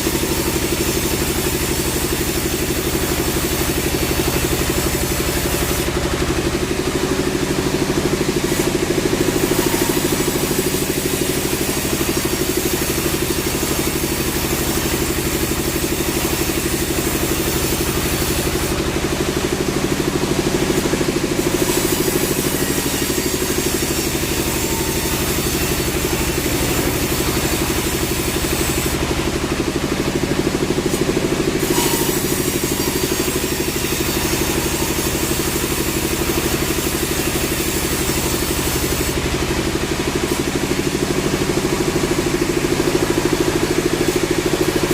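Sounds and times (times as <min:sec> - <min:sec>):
sawmill engine drone: 0:00.0 - 0:44.9.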